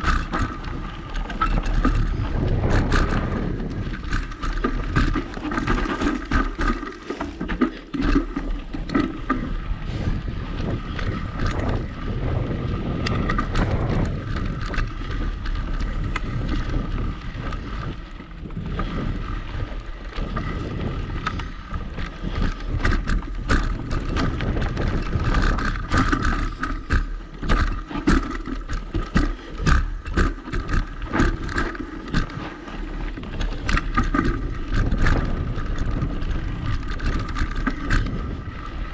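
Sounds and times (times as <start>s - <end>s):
bike rattling over bumps: 0.0s - 38.9s
rushing wind: 0.0s - 38.9s
tyre noise on dirt: 0.0s - 38.9s.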